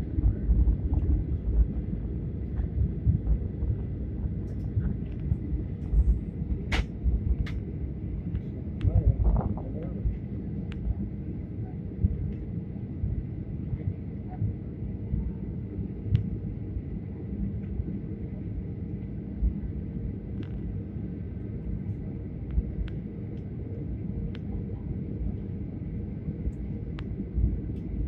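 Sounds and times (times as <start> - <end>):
faint steady hums: 0.0 - 28.0
low rumble of engines and airflow: 0.0 - 28.0.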